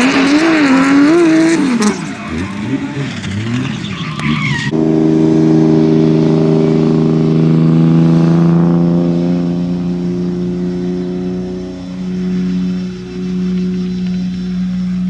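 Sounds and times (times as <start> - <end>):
steady drone with overtones: 2.2 - 15.0.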